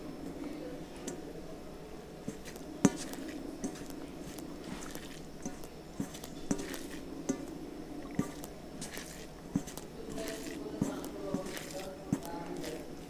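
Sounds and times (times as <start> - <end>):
fingers squishing rice and curry: 0.1 - 13.0.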